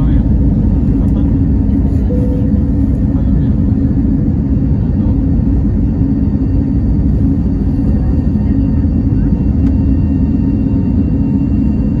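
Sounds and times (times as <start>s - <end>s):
faint steady whine: 0.0s - 12.0s
jet engines low rumble: 0.0s - 12.0s.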